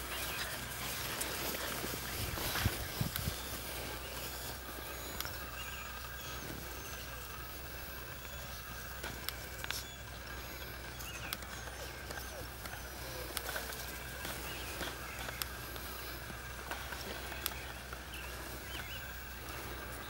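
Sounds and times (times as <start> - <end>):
puppies scampering over grass: 0.0 - 20.0
steady low hum: 0.0 - 20.0.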